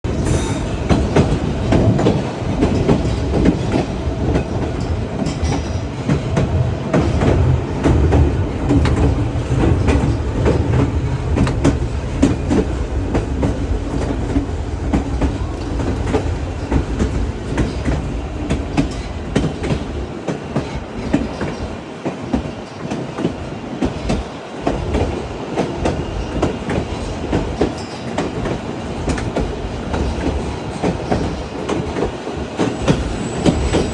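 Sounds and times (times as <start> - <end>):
train rumbling on rails: 0.0 - 33.9.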